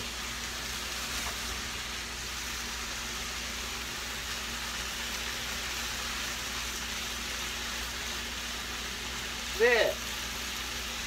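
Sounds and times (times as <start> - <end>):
food sizzling in a frying pan: 0.0 - 11.0
kitchen exhaust fan whirring: 0.0 - 11.0.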